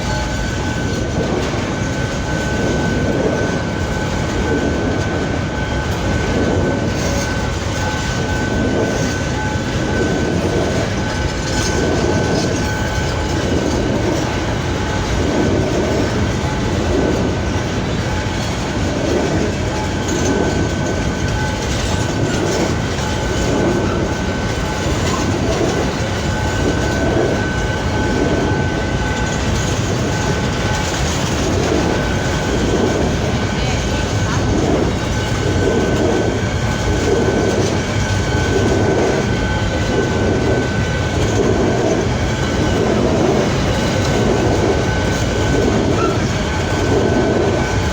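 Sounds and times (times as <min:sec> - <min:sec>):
train wheels clattering over rail joints: 0:00.0 - 0:47.9.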